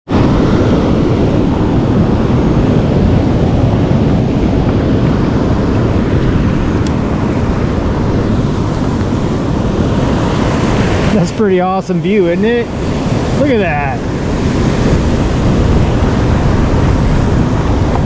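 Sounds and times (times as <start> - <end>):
ocean waves: 0.1 - 18.0
wind buffeting microphone: 0.1 - 18.0.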